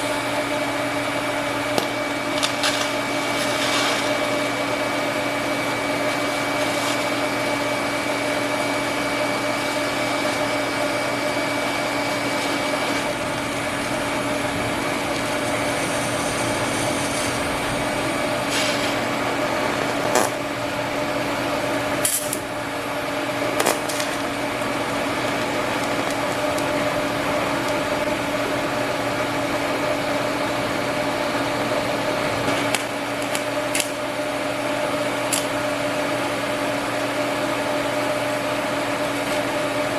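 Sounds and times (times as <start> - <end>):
welder humming and hissing: 0.0 - 39.9.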